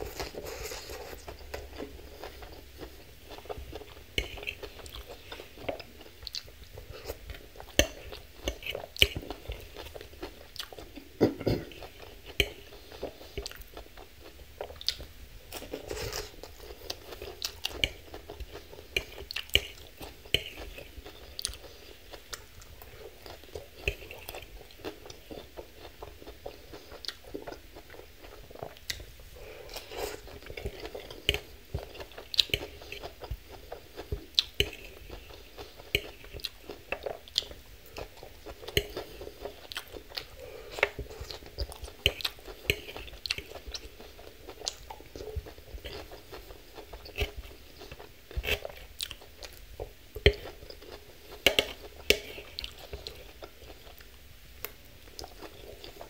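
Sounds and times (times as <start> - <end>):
chewing crunchy salad: 0.0 - 56.0.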